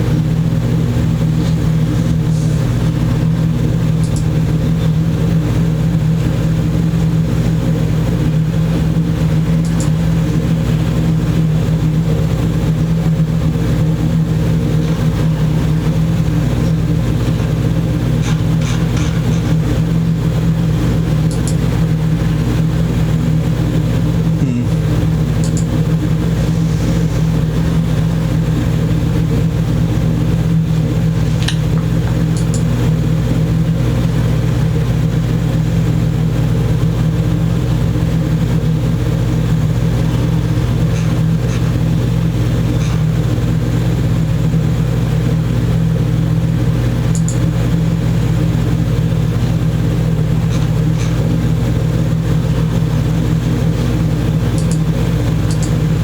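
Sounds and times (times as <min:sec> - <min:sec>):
loud machine hum: 0:00.0 - 0:56.0.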